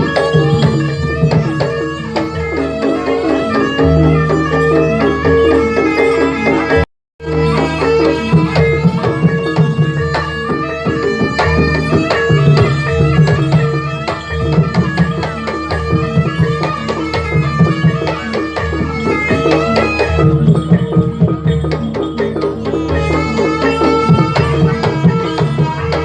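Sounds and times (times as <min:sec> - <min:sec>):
hand drums fast rhythm: 0:00.0 - 0:26.0
gong-chime tones: 0:03.0 - 0:26.0.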